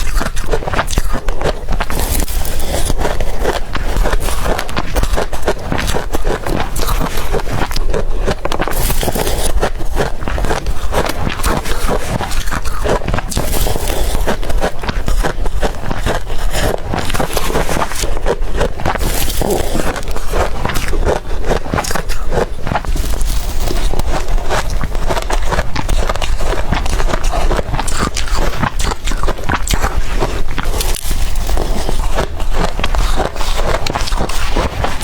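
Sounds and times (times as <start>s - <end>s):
crushed ice being chewed: 0.0s - 35.0s.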